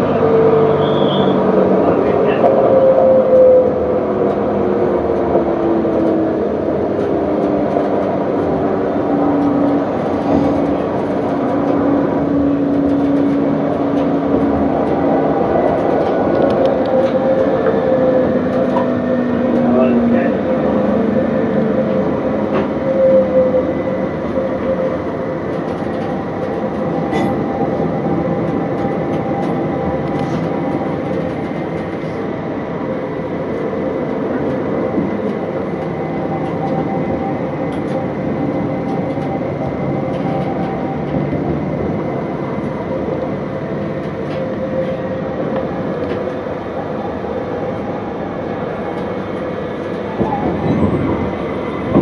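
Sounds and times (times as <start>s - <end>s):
tram wheels rumbling on rails: 0.0s - 52.0s.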